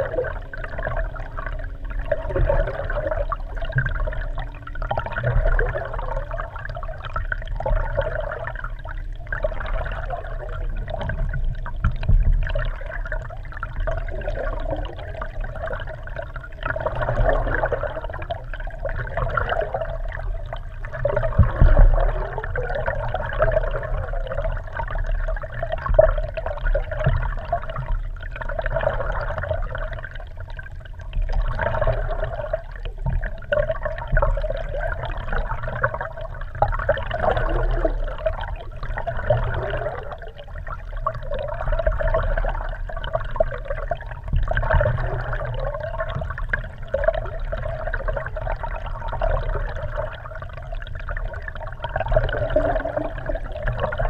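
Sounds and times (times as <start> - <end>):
muffled underwater water rushing: 0.0 - 54.0.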